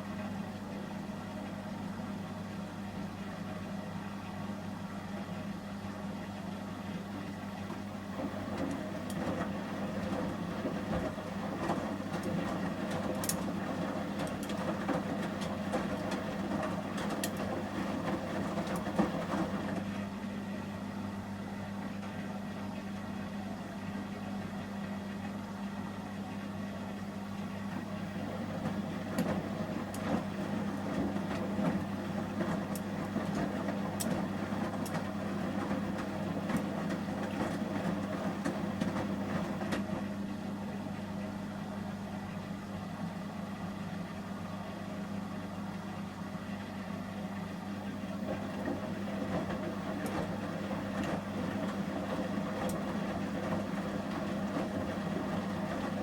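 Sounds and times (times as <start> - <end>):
washing machine hum: 0.0 - 56.0.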